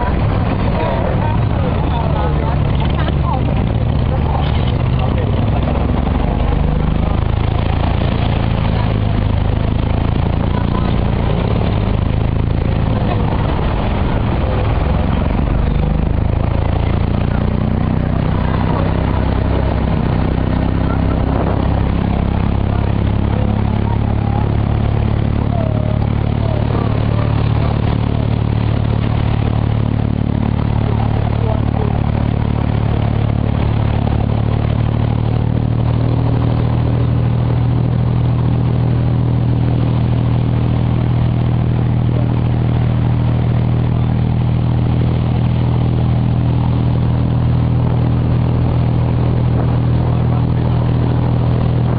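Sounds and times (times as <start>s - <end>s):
boat engine humming: 0.0s - 51.9s.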